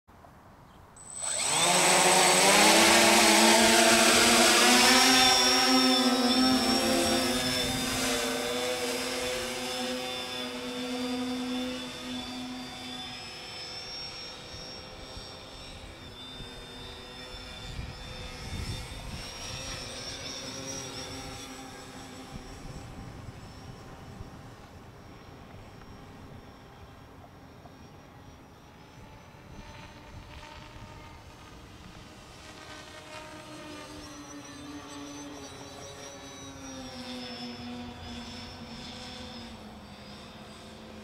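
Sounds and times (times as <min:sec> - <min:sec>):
high motor whine: 0:00.8 - 0:41.0
drone propellers humming: 0:00.9 - 0:41.0.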